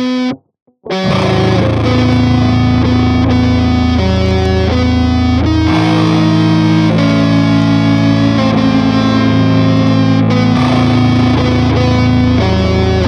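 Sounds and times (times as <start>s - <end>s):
distorted electric guitar music: 0.0s - 13.0s.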